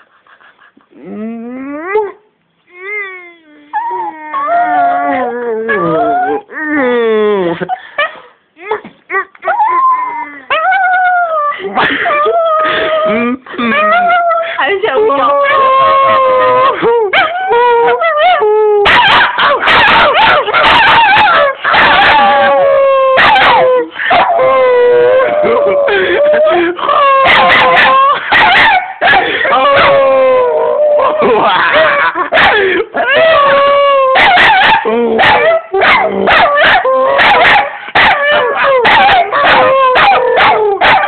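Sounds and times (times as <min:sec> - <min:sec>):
dog howling and yipping: 0:03.7 - 0:06.6, 0:09.1 - 0:13.1, 0:13.7 - 0:41.0.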